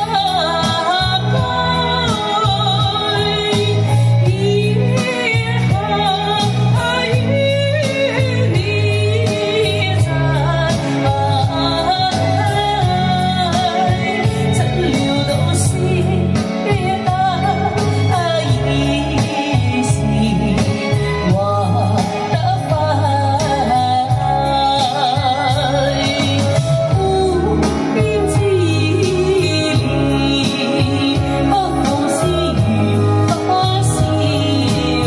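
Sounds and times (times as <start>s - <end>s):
karaoke backing track: 0.0s - 35.0s
woman singing ballad: 0.0s - 35.0s.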